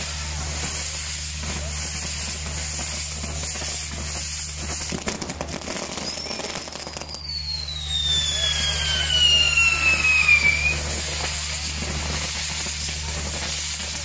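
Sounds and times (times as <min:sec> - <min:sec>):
crackling firework pops: 0:00.0 - 0:14.0
falling firework whistle: 0:00.0 - 0:14.0
hiss of spark-throwing fireworks: 0:00.0 - 0:14.0.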